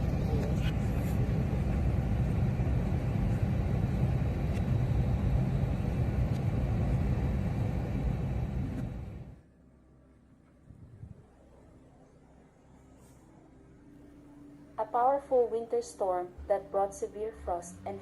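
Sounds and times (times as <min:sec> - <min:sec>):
low outdoor ambient rumble: 0:00.0 - 0:18.0.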